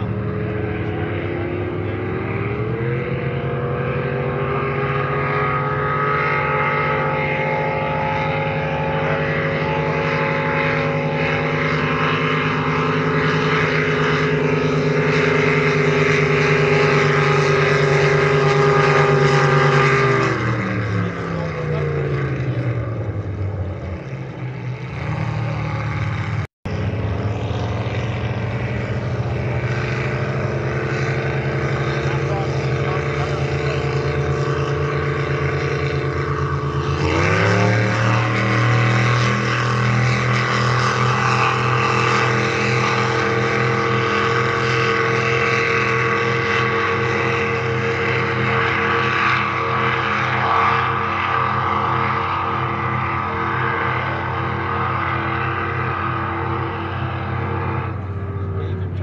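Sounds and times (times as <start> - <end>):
powerboat engines at high revs: 0.0 - 59.0.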